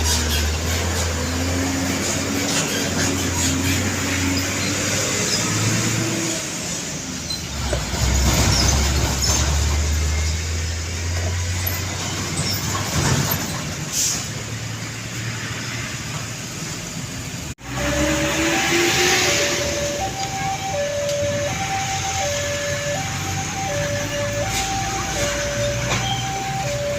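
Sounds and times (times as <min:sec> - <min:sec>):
diesel engine rumbling past: 0:00.0 - 0:26.9
tyre and road noise: 0:00.0 - 0:26.9.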